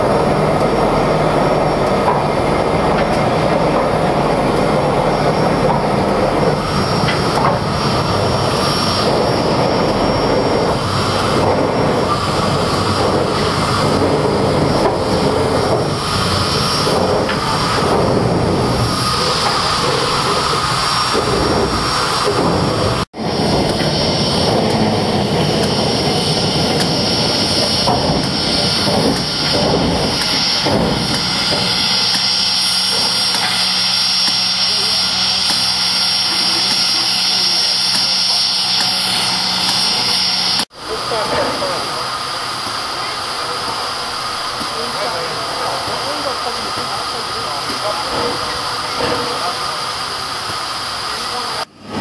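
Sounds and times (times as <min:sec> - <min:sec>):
steam locomotive hissing steam: 0:00.0 - 0:52.0.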